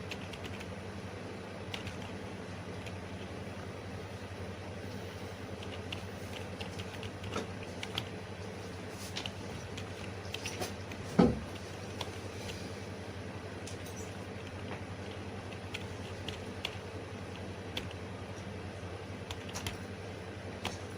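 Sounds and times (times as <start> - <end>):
low electrical hum: 0.0 - 20.9.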